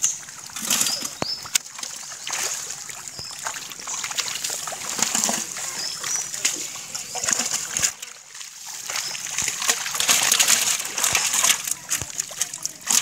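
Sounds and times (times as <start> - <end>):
splashing in shallow muddy water: 0.0 - 13.0.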